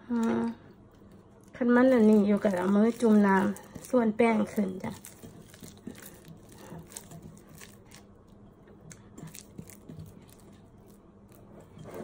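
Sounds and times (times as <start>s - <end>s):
wet hands folding dough: 0.0s - 12.0s.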